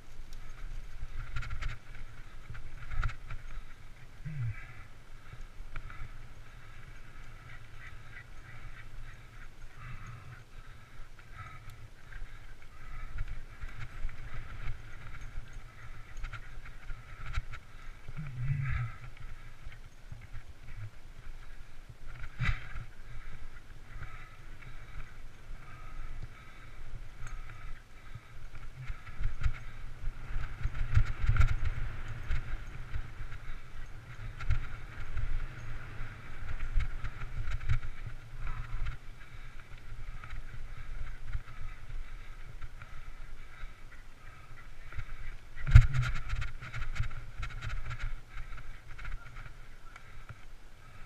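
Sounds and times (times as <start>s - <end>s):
bike rattling over bumps: 0.0s - 51.0s
wind rumble on microphone: 0.0s - 51.0s.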